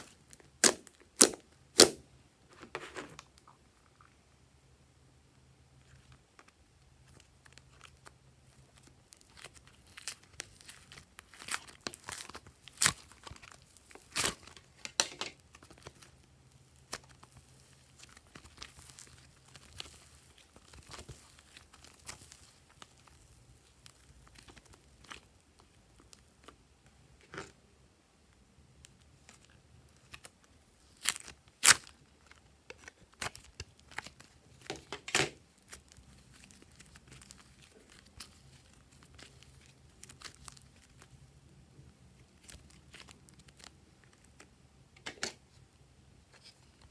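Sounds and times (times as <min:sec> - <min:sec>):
clay crackling and tearing: 0:00.0 - 0:02.0, 0:05.8 - 0:26.6, 0:28.9 - 0:41.4, 0:42.2 - 0:45.4.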